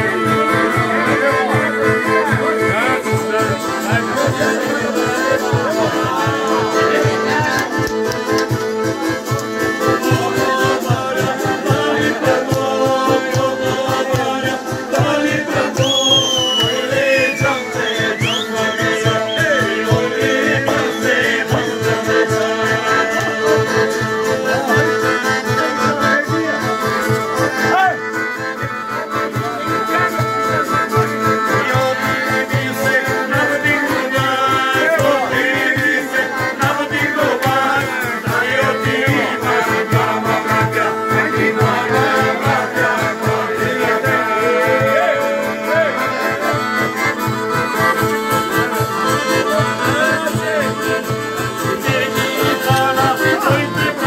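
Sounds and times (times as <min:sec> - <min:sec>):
man singing: 0:00.0 - 0:07.8, 0:09.8 - 0:27.0, 0:29.9 - 0:46.7, 0:49.1 - 0:54.0
accordion playing lively tune: 0:00.0 - 0:54.0.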